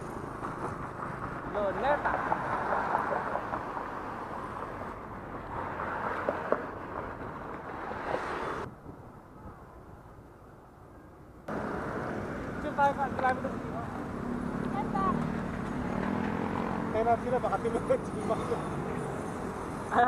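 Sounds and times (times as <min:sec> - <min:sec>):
bicycle road noise: 0:00.0 - 0:08.8, 0:11.4 - 0:20.0
city traffic: 0:00.0 - 0:20.0.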